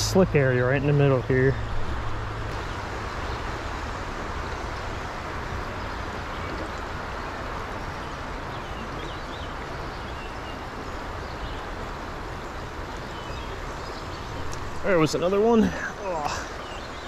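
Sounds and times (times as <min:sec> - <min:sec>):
fast rocky stream rushing: 0:00.0 - 0:17.0.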